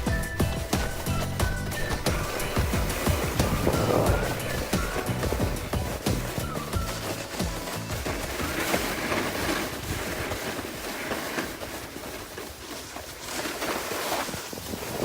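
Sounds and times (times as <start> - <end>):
wind buffeting microphone: 0.0 - 12.3, 13.9 - 15.0
snow scraping underfoot: 0.0 - 15.0.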